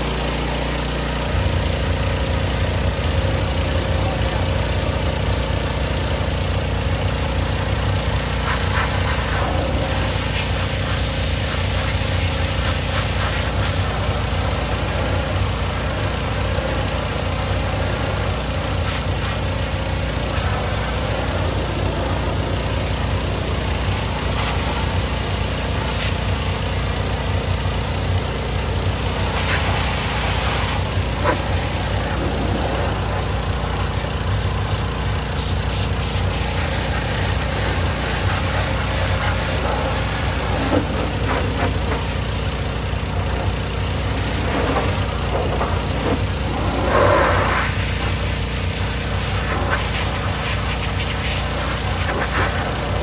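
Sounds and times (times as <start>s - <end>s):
pressure washer engine running: 0.0s - 53.0s
water spray hissing: 1.3s - 53.0s.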